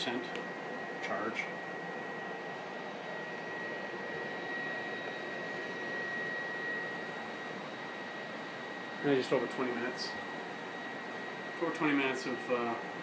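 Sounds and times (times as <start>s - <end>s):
stove fan whirring: 0.0s - 13.0s.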